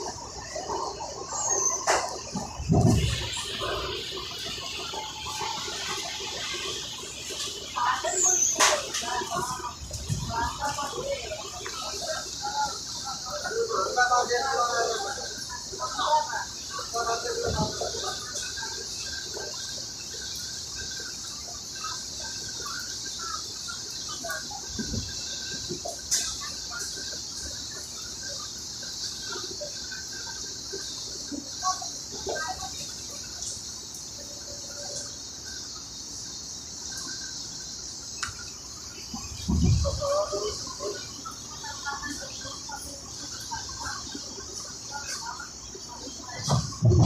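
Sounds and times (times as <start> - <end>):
insects chirring: 0.0 - 47.0.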